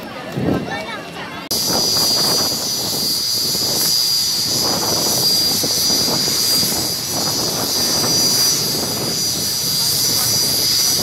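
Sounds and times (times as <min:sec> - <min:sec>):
jet engines idling: 0:00.0 - 0:11.0.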